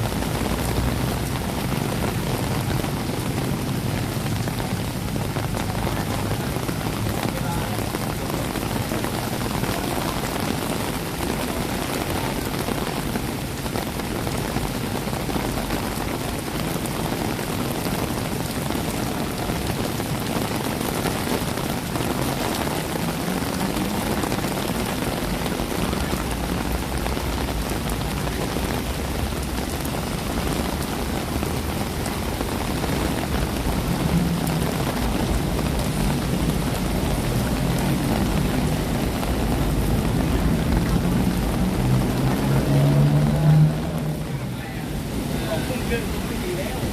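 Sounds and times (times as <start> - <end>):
low rumble of road traffic: 0.0 - 46.9
steady rain falling: 0.0 - 46.9.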